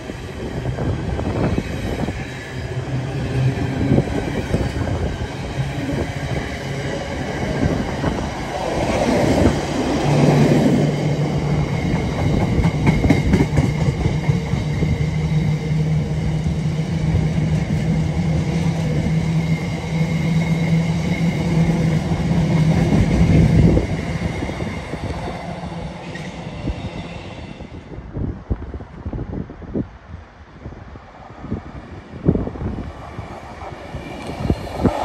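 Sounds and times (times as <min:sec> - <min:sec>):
freight train wheels droning: 0:00.0 - 0:28.1, 0:30.8 - 0:35.0.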